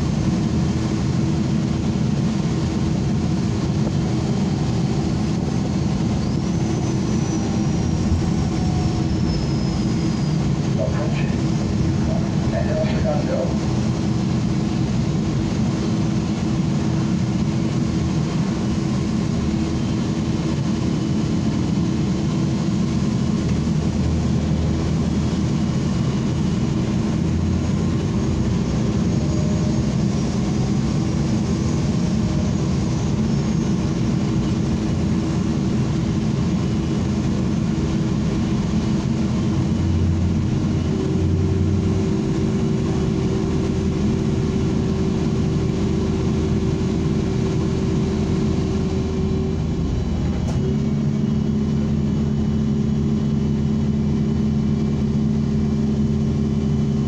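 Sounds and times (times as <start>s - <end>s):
bus engine drone: 0.0s - 57.0s
road rumble: 0.0s - 57.0s.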